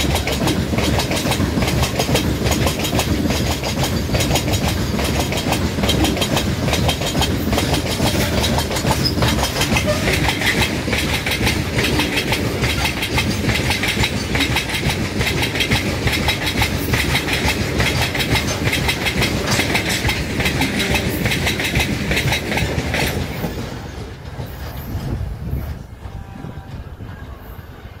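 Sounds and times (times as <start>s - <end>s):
wheels clattering over rail joints: 0.0s - 26.2s
heavy train rumble: 0.0s - 28.0s.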